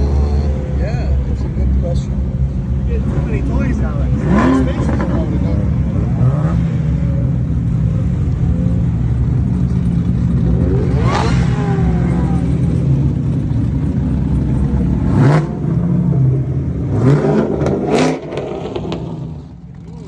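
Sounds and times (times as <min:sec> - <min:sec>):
cars driving past: 0:00.0 - 0:20.0
engine revs: 0:00.0 - 0:20.0.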